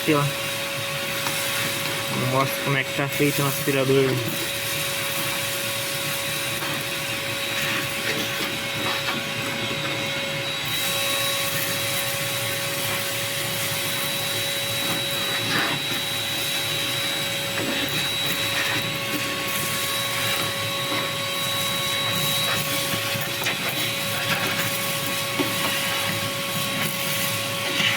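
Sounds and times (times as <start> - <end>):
vacuum cleaner whining: 0.0 - 27.9.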